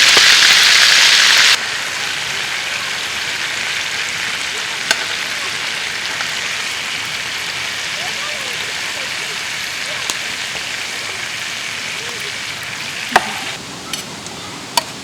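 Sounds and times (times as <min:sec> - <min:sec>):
steak sizzling in a pan: 0:00.0 - 0:13.6.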